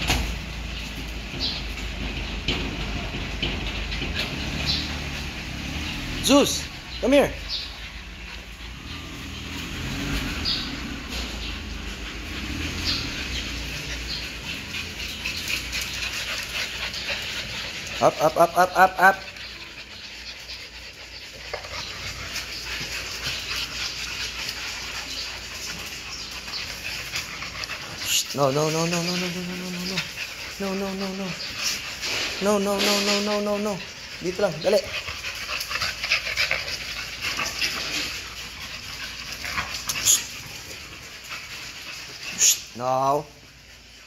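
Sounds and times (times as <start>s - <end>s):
rustle: 0.0s - 18.3s, 19.2s - 44.0s
dogs play-fighting: 0.0s - 44.0s
puppies yipping and whimpering: 0.7s - 42.8s.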